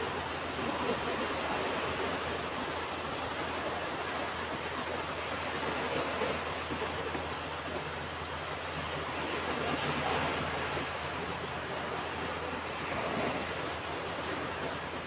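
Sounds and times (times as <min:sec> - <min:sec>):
ocean surf washing on beach: 0:00.0 - 0:15.0.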